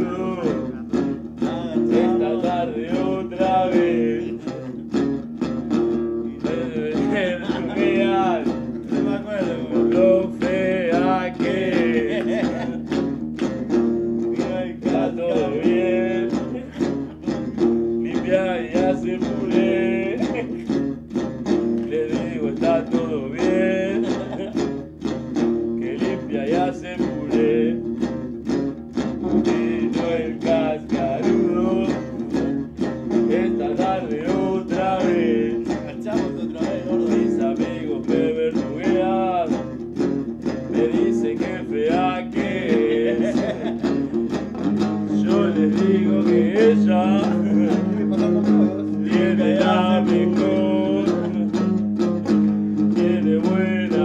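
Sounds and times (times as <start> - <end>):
electric guitar rock music: 0.0 - 54.0.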